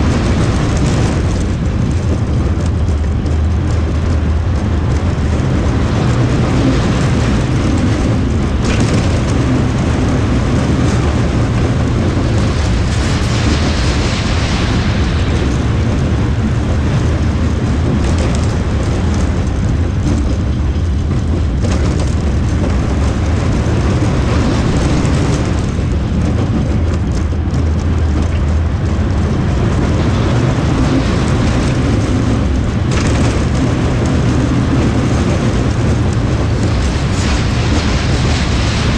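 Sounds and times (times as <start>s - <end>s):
roller coaster rumbling on track: 0.0s - 38.9s.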